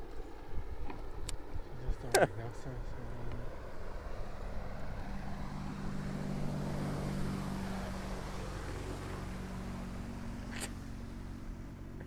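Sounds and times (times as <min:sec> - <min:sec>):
outboard motor passing: 0:00.0 - 0:12.0.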